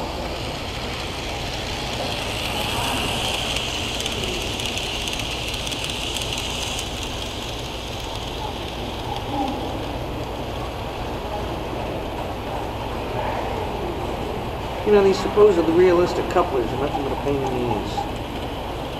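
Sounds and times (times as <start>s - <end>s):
model train rolling on track: 0.0s - 18.9s.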